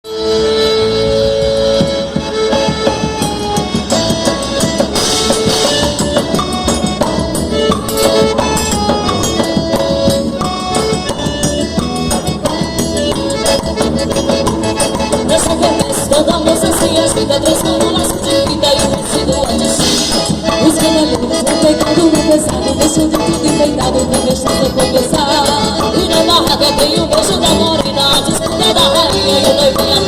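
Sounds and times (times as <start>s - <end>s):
accordion: 0.0s - 30.0s
band playing instrumental folk music: 0.0s - 30.0s
steady percussion beat: 1.4s - 30.0s.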